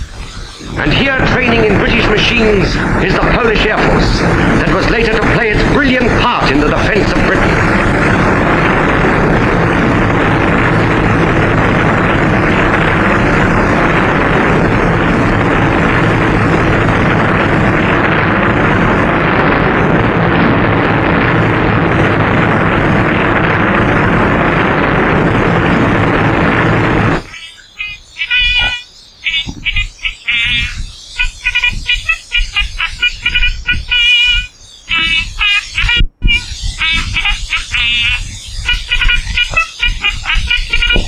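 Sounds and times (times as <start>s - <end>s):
propeller aircraft engines droning: 0.0s - 41.0s.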